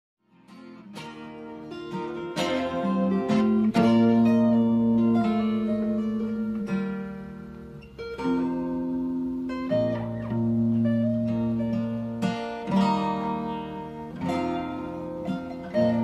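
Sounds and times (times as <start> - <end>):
acoustic guitar chords ringing: 0.3 - 16.0.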